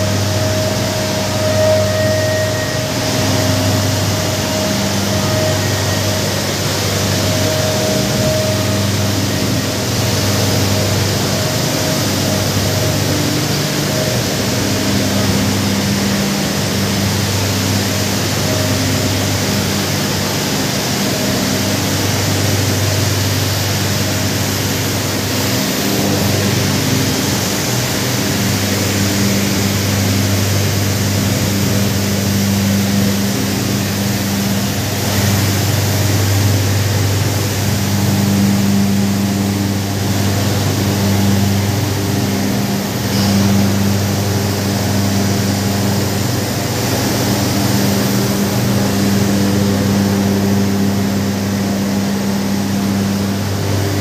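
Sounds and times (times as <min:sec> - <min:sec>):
heavy industrial machinery running: 0:00.0 - 0:54.0.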